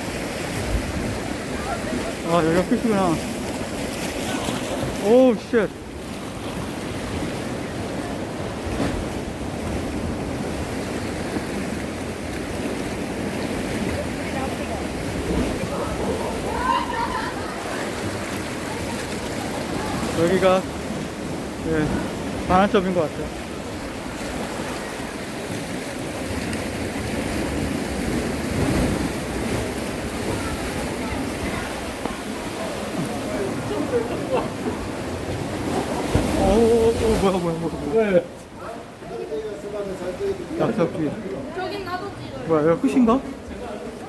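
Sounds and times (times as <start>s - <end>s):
surf washing against rocky shore: 0.0s - 44.0s.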